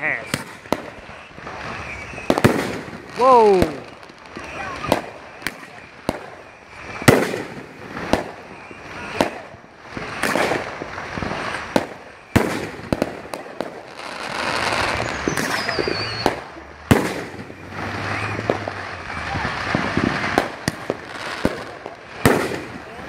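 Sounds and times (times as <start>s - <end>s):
falling firework whistle: 0.0s - 22.9s
firework hissing: 0.0s - 23.0s
firework launch reports and bursts: 0.0s - 23.0s.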